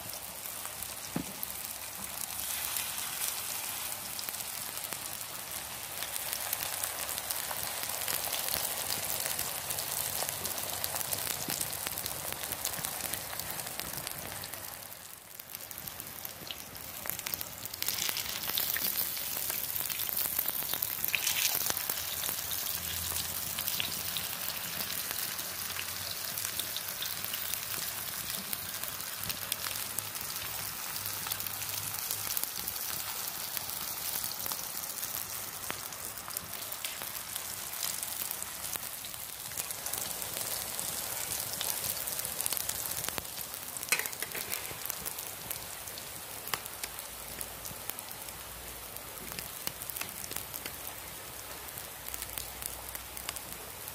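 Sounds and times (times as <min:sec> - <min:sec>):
meat sizzling on a griddle: 0:00.0 - 0:53.9.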